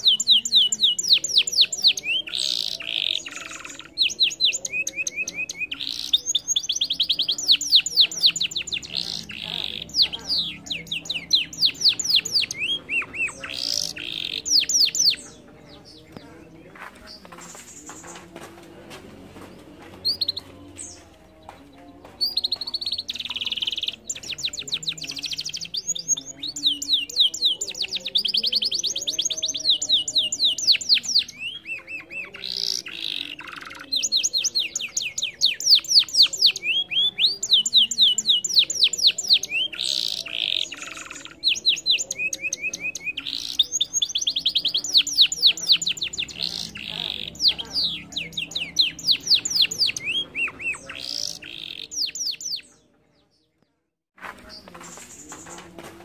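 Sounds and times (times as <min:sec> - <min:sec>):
canary singing trills: 0:00.0 - 0:18.5, 0:19.4 - 0:53.7.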